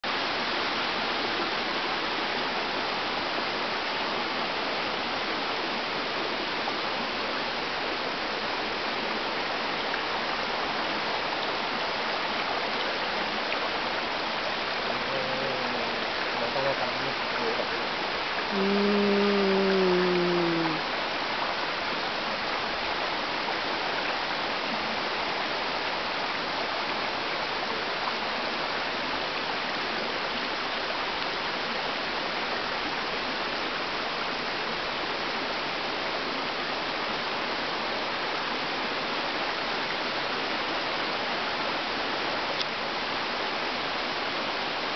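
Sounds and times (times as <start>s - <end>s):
small waterfall rushing: 0.0s - 44.9s.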